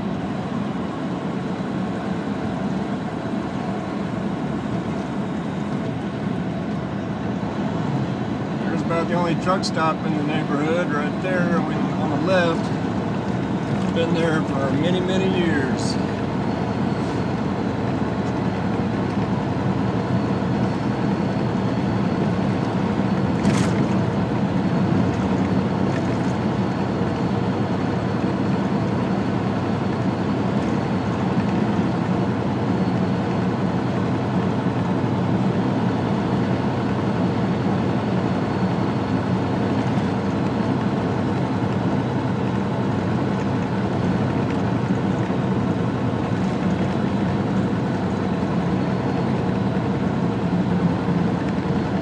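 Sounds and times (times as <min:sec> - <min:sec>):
diesel engine drone: 0:00.0 - 0:52.0
tyre and road noise: 0:00.0 - 0:52.0.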